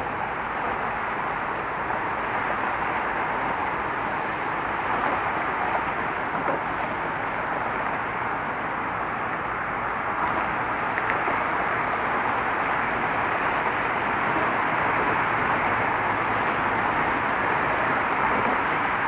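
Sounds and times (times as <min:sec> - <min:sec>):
road traffic rushing: 0:00.0 - 0:19.0.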